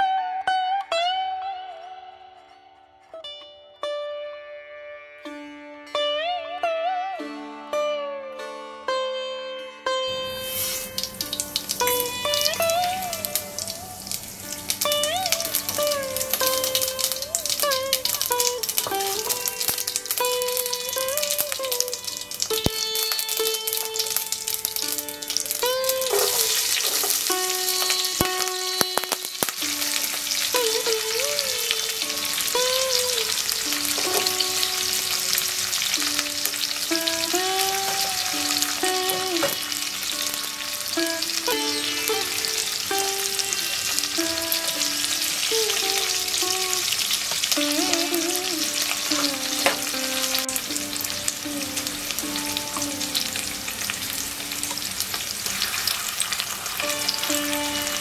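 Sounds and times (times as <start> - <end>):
oil sizzling in a pot: 10.1 - 58.0.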